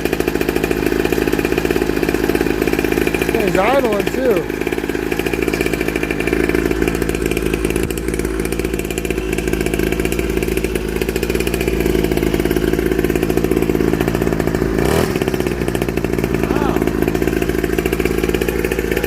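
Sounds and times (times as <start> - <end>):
small two-stroke engine idling: 0.0 - 19.0.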